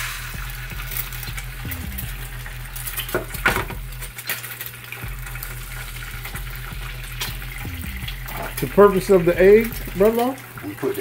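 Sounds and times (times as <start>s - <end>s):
eggs sizzling in a pan: 0.0s - 11.0s.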